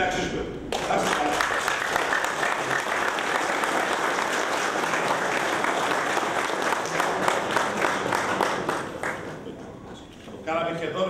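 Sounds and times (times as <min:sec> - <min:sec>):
audience applauding: 0:00.7 - 0:09.8.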